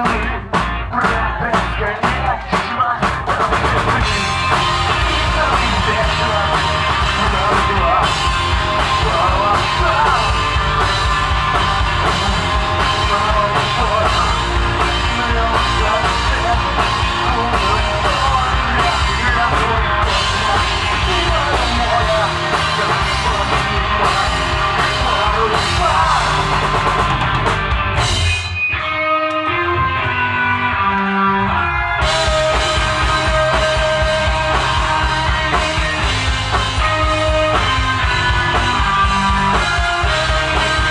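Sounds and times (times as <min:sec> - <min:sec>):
drum kit: 0:00.0 - 0:28.9, 0:32.0 - 0:40.9
bass guitar: 0:00.0 - 0:40.9
electric guitar: 0:00.0 - 0:40.9.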